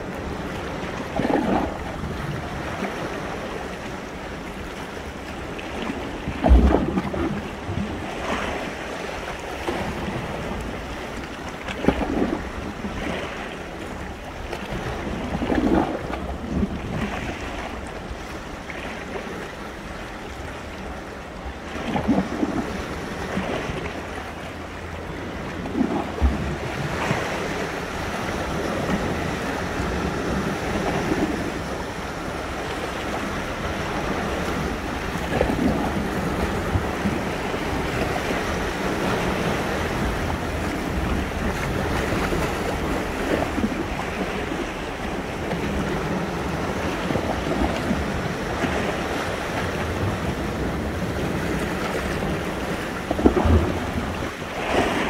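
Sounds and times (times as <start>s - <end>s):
sea waves breaking on shore: 0.0s - 55.0s
wind noise on microphone: 0.0s - 55.0s.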